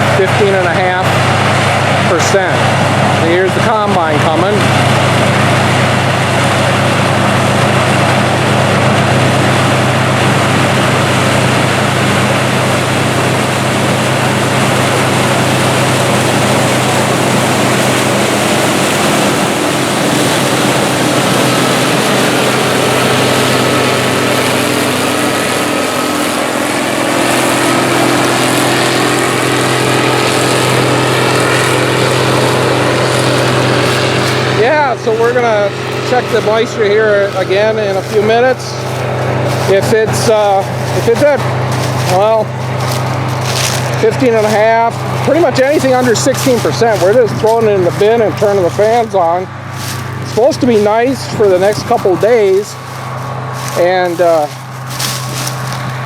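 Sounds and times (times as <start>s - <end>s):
combine harvester engine drone: 0.0s - 56.0s
high whine: 0.0s - 56.0s.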